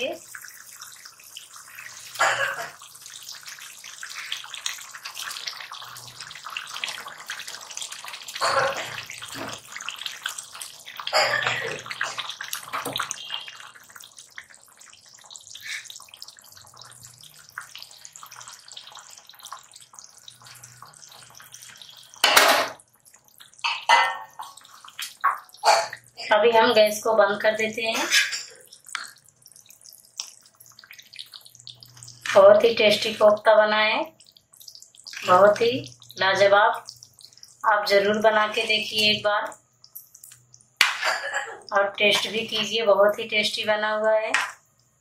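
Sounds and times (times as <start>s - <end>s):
thick gravy bubbling: 0.0s - 45.0s.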